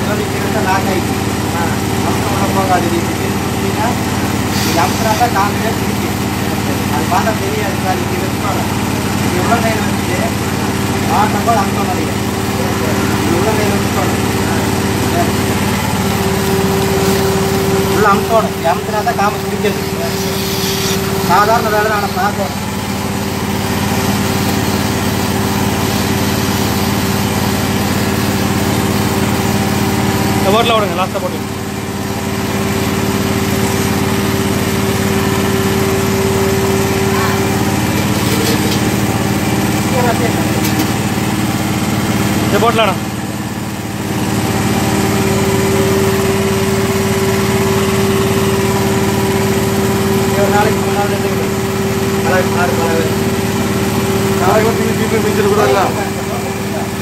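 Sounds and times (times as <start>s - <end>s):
vacuum pump humming: 0.0s - 57.0s.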